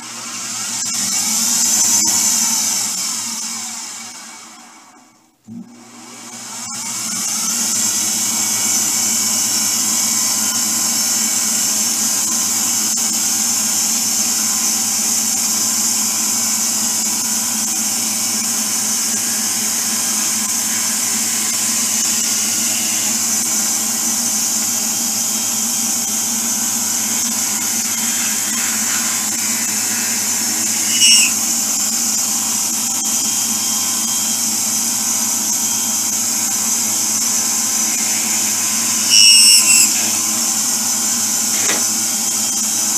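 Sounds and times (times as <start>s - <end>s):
drill bit squeal: 0.0s - 5.2s, 6.2s - 42.9s
drill press drilling wood: 0.0s - 42.9s.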